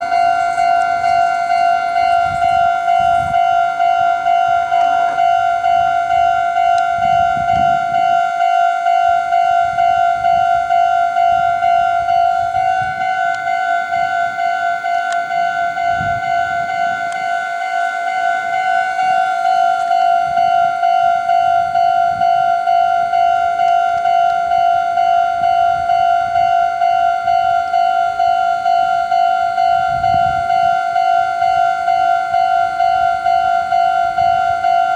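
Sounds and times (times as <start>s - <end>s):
level-crossing electronic bell: 0.0s - 34.9s.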